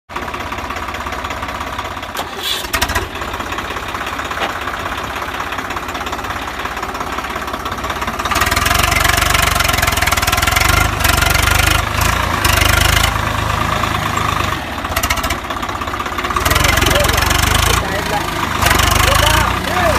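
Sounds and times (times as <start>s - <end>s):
tractor diesel engine running: 0.1s - 19.9s.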